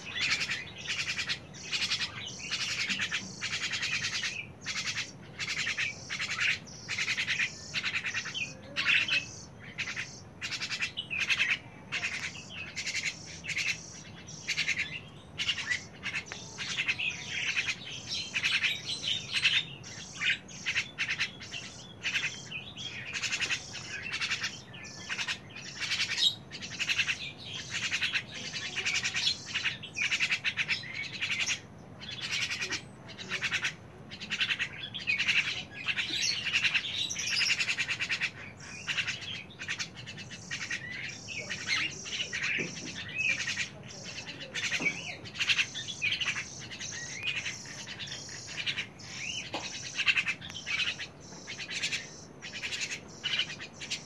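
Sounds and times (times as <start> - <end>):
birds chirping and chattering: 0.0 - 54.0.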